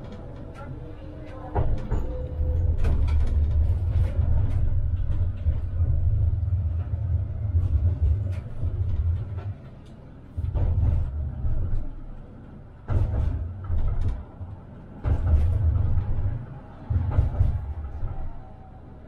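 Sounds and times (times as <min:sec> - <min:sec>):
tram rumbling on track: 0:00.0 - 0:19.0.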